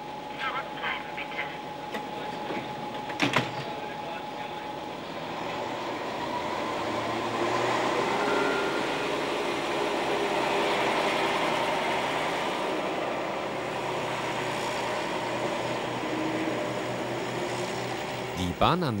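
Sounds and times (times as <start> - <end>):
diesel railcar engine under load: 0.0 - 19.0.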